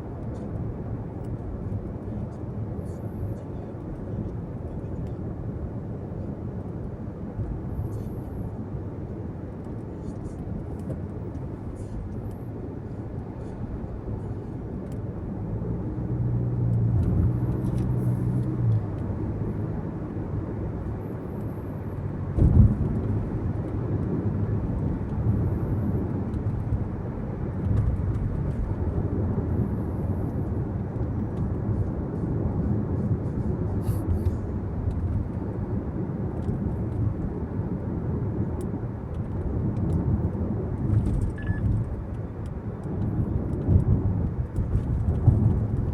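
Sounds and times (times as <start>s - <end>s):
car tyres and engine rumble: 0.0s - 45.9s.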